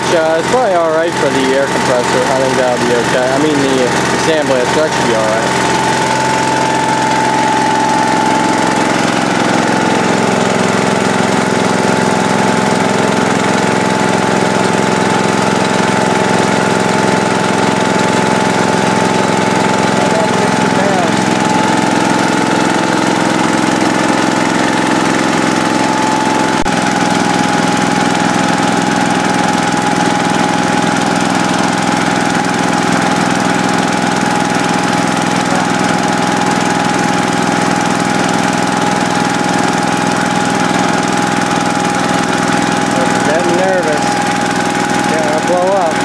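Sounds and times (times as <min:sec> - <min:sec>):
gas engine air compressor running: 0:00.0 - 0:46.0.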